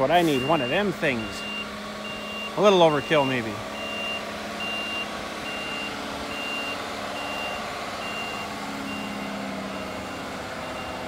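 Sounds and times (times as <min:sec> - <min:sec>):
truck engine running: 0:00.0 - 0:11.0
reversing alarm beeps: 0:00.1 - 0:11.0.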